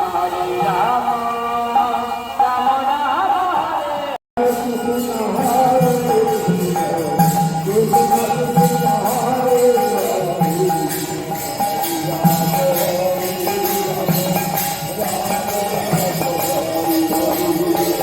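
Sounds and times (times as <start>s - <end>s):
jingling percussion: 0.0s - 3.6s, 4.4s - 18.0s.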